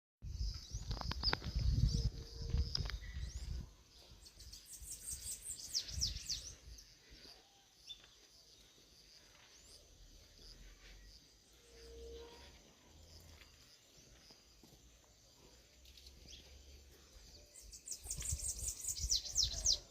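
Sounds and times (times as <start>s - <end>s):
small birds chirping: 0.2s - 19.9s.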